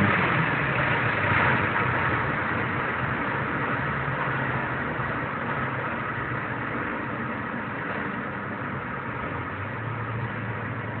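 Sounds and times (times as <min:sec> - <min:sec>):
car engine drone: 0:00.0 - 0:11.0
wind and road noise: 0:00.0 - 0:11.0.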